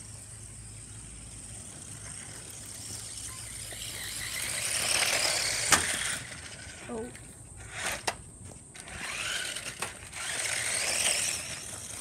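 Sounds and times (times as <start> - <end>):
steady high hiss: 0.0 - 12.0
toy car motor and tyres: 0.0 - 12.0.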